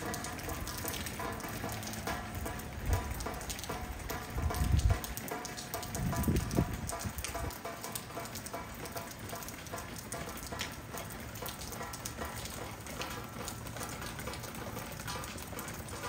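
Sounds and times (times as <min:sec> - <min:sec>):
steady rain patter: 0:00.0 - 0:16.0.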